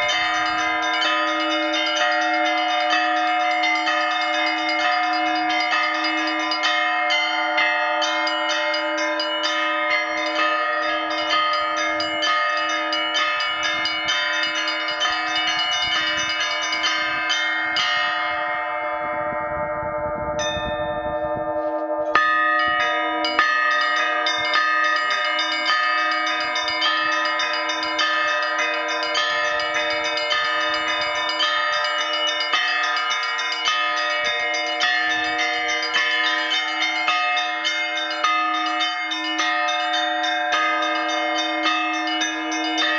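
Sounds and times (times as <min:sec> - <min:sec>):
church bells ringing: 0:00.0 - 0:42.9
steady low bell tone: 0:00.0 - 0:42.9.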